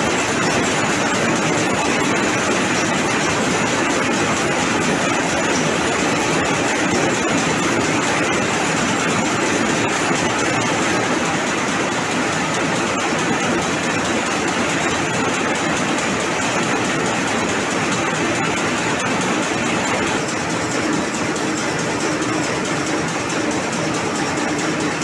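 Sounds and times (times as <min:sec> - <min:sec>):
loom mechanical clatter: 0:00.0 - 0:25.0.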